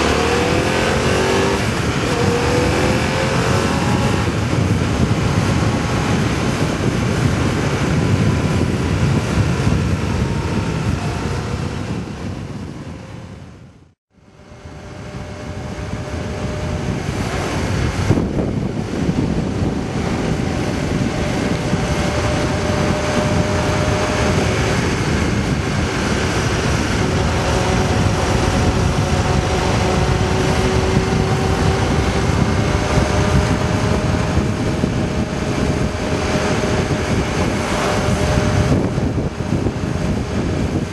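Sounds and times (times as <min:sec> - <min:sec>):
motorcycle engine hum: 0:00.0 - 0:40.9
wind rushing over microphone: 0:00.0 - 0:40.9.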